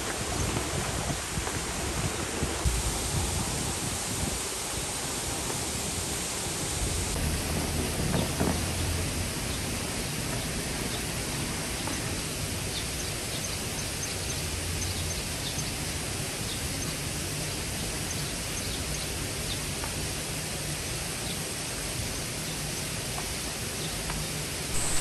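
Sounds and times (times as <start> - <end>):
mountain stream rushing: 0.0 - 18.4, 19.2 - 25.0.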